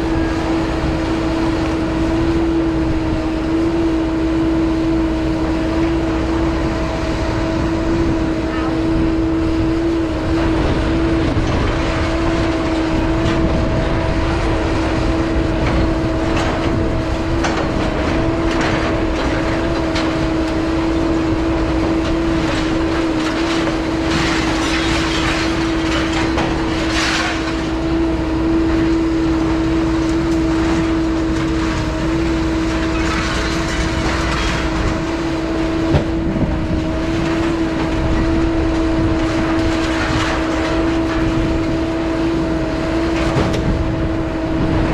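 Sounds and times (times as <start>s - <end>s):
vehicle road noise rumble: 0.0s - 44.9s.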